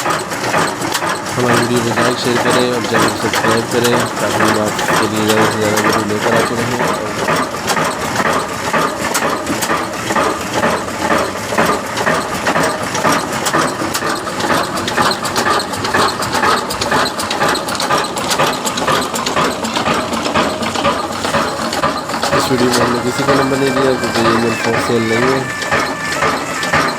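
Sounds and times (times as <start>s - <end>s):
diesel engine clatter: 0.0s - 26.9s.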